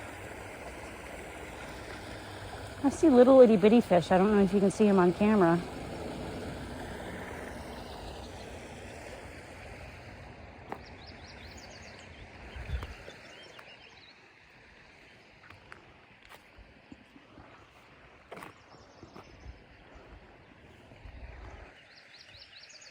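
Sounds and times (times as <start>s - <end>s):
running water rushing: 0.0s - 22.5s.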